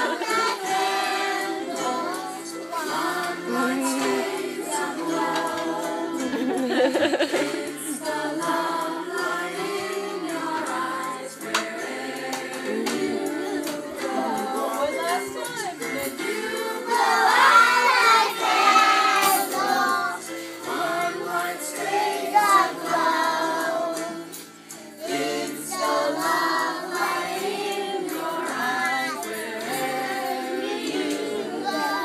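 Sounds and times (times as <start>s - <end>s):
young children singing: 0.0s - 32.0s.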